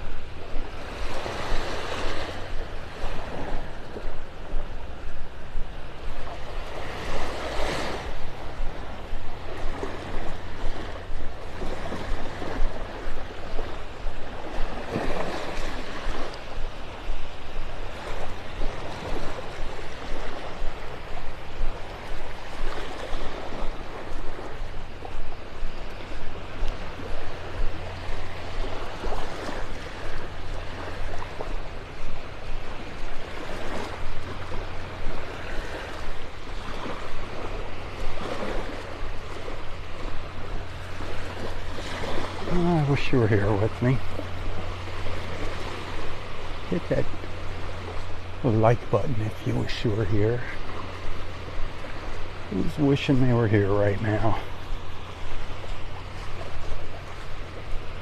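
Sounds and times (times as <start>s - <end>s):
small waves lapping: 0.0s - 58.0s
wind rumbling on microphone: 0.0s - 58.0s.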